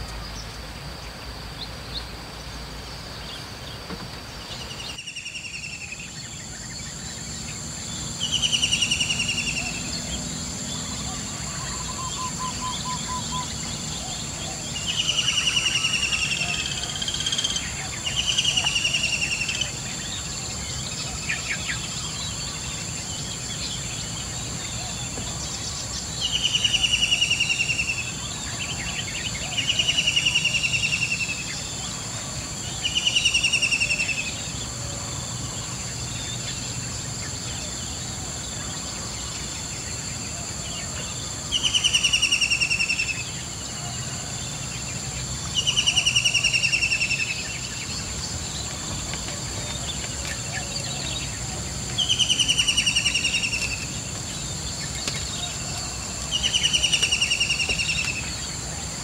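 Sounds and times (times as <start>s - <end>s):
bird pulsed trill: 4.6s - 31.9s, 32.6s - 34.6s, 38.5s - 44.8s, 45.5s - 48.7s, 49.7s - 58.6s.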